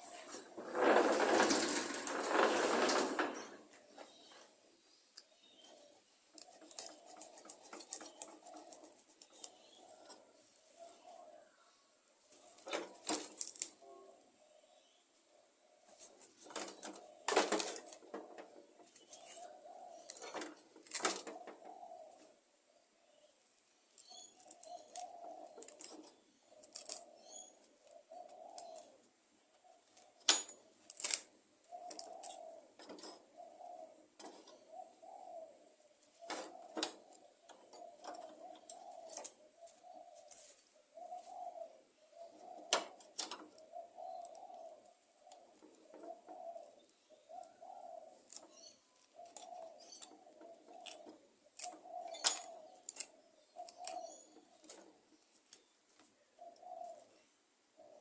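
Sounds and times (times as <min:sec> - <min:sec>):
birds cooing: 0:00.0 - 0:58.0.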